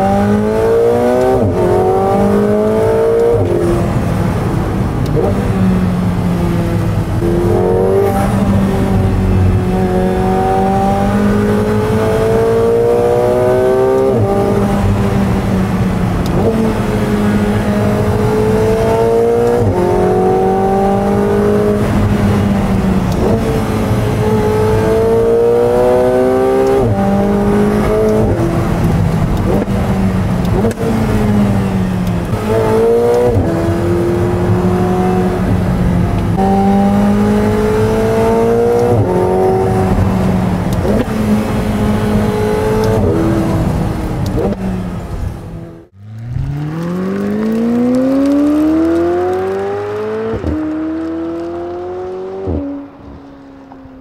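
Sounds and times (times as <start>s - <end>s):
sports car engine revving: 0.0s - 53.2s.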